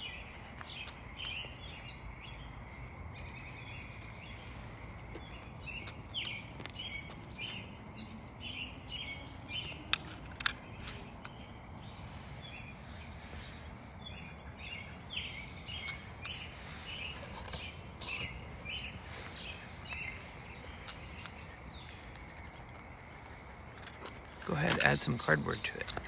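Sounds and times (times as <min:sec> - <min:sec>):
steady low rumble: 0:00.0 - 0:24.4
bird chirping: 0:00.0 - 0:26.0.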